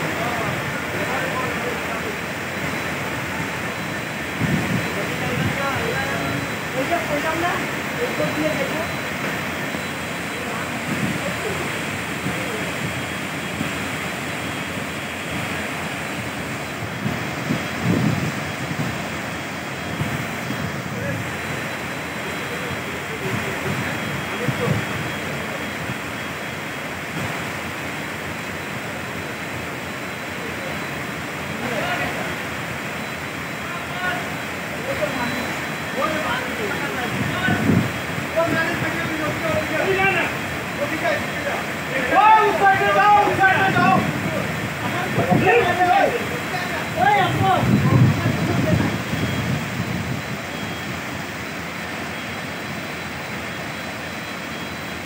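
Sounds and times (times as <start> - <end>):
floodwater pouring: 0.0 - 55.0
torrential rain falling: 0.0 - 55.0.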